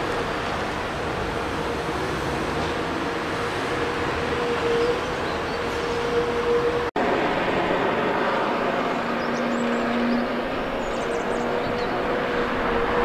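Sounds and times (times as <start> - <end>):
excavator diesel engine and hydraulics: 0.0 - 13.0.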